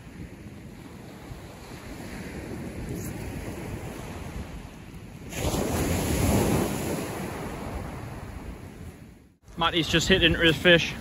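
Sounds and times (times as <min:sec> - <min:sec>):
waves breaking on shore: 0:00.0 - 0:10.9
wind buffeting microphone: 0:00.0 - 0:11.0.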